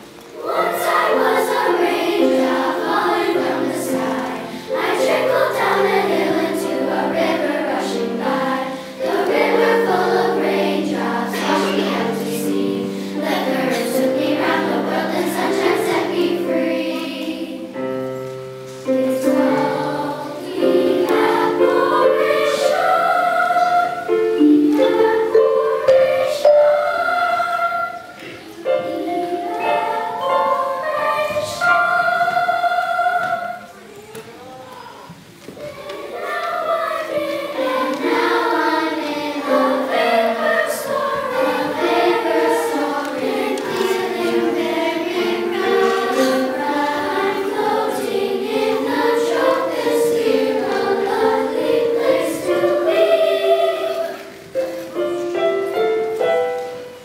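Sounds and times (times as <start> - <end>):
children's choir singing: 0.0 - 57.0
piano: 0.0 - 57.0.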